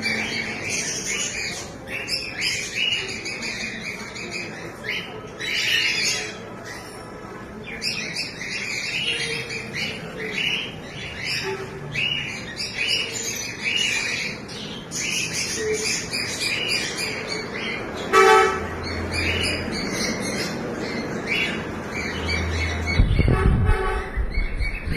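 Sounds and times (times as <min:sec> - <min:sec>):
cockatiels and budgerigars chirping: 0:00.0 - 0:24.9.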